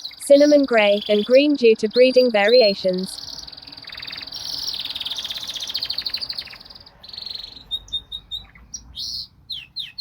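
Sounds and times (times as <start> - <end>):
canary singing: 0.0 - 10.0.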